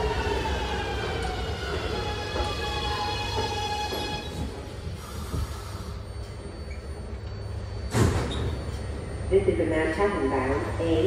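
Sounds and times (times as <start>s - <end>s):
subway train running gear rumble: 0.0s - 11.0s.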